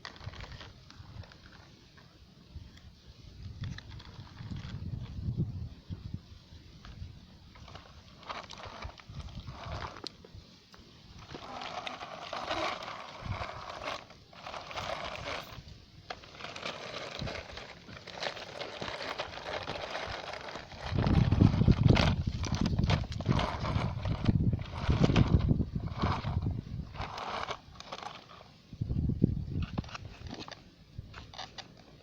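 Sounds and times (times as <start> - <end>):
toy excavator digging soil: 0.0 - 1.7, 3.4 - 5.2, 7.5 - 28.6, 29.5 - 32.0.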